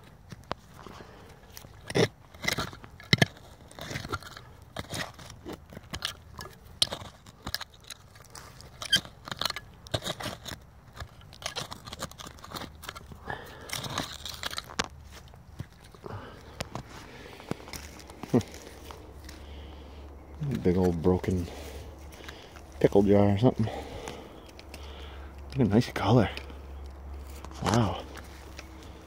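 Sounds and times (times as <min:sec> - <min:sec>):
hand cultivator scraping gravelly soil: 0:00.0 - 0:29.0.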